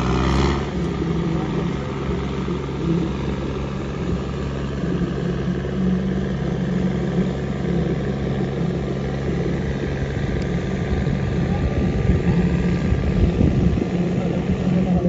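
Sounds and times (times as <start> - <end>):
diesel tractor engines labouring: 0.0 - 15.0.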